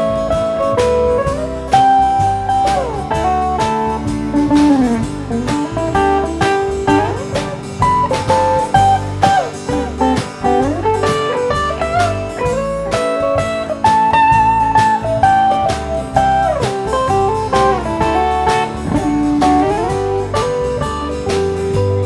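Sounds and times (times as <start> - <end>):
bass: 0.0 - 22.0
drums: 0.0 - 22.0
lead guitar solo: 0.0 - 22.0.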